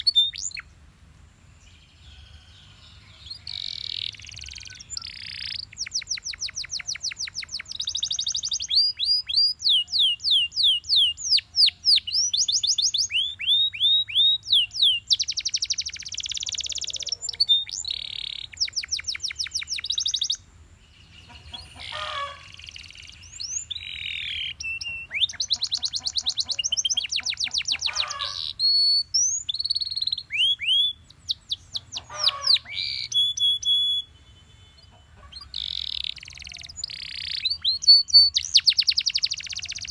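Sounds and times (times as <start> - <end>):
canary singing: 0.0 - 0.8, 1.7 - 39.9.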